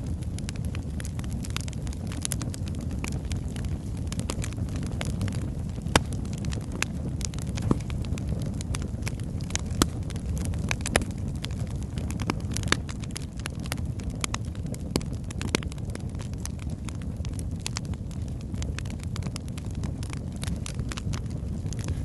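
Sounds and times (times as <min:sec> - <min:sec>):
logs crackling and popping: 0:00.0 - 0:22.0
rumble of flames: 0:00.0 - 0:22.0.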